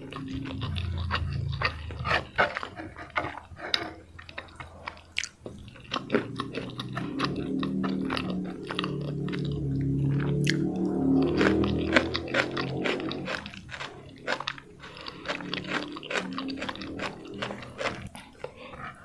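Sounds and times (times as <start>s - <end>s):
low hum: 0.0s - 19.0s
wet chewing smacks and clicks: 0.0s - 19.0s.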